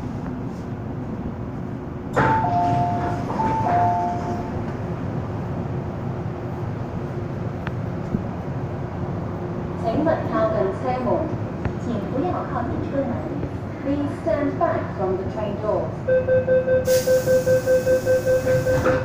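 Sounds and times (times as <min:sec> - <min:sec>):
train humming: 0:00.0 - 0:16.1, 0:16.9 - 0:19.0.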